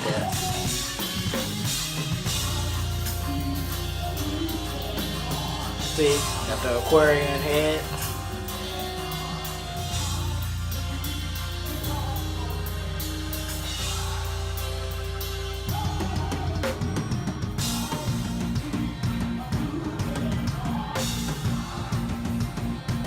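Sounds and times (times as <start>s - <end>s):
band playing: 0.0s - 23.0s.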